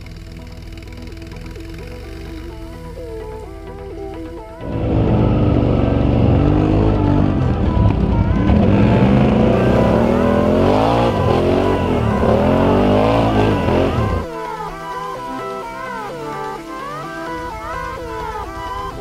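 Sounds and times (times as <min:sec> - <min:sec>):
atv engines revving: 0:00.0 - 0:19.0.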